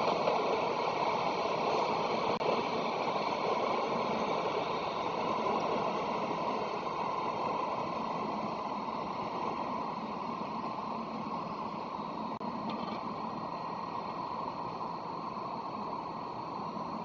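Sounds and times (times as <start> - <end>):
railway station hiss and rumble: 0.0 - 17.0.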